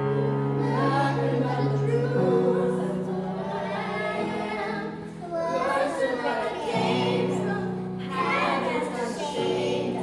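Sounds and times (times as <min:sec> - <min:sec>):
choir singing in parts: 0:00.0 - 0:10.0.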